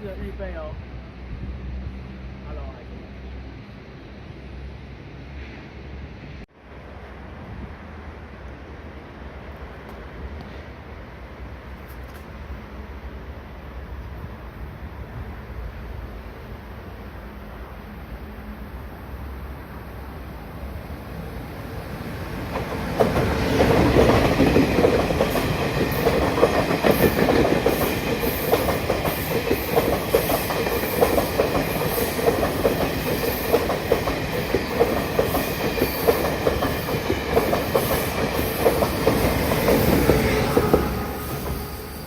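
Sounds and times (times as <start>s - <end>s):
express train passing: 0.0s - 42.0s.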